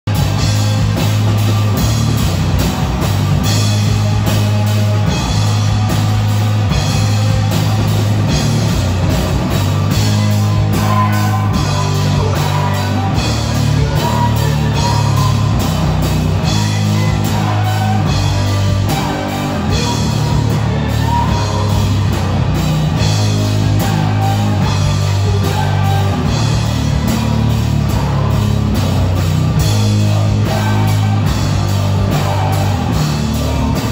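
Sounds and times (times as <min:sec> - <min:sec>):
rock band playing: 0:00.1 - 0:33.9.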